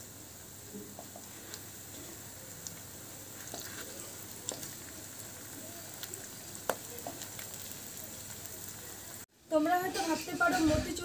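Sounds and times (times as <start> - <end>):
fritters sizzling in oil: 0.0 - 11.0.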